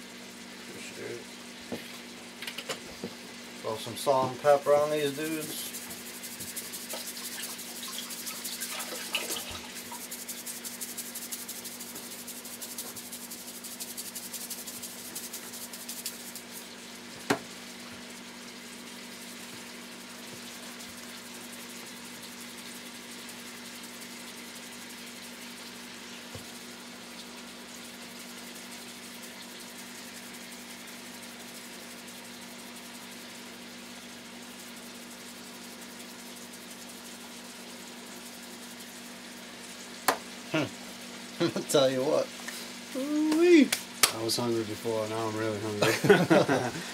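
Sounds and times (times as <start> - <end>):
meat sizzling in a pan: 0.0 - 46.9.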